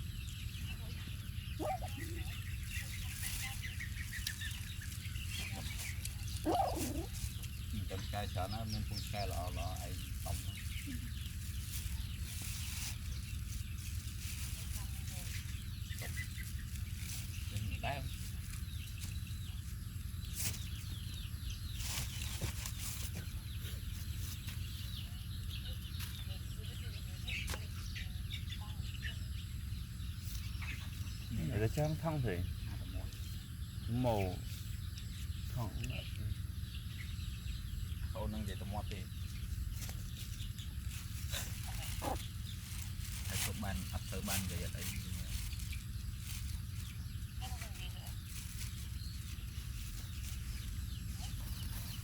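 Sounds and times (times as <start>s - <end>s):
chickens clucking: 0.0s - 52.0s
chicks cheeping: 0.0s - 52.0s
steady low hum: 0.0s - 52.0s
young animals squeaking: 0.0s - 52.0s.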